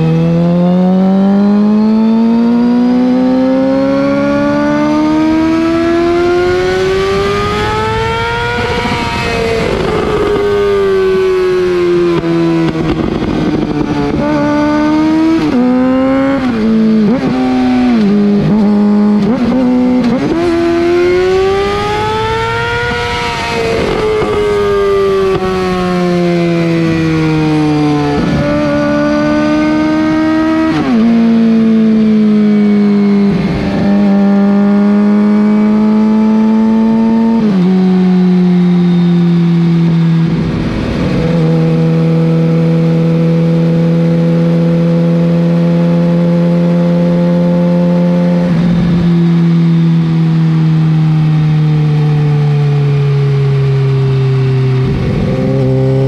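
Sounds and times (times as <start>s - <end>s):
motorcycle engine exhaust note: 0.0s - 56.0s.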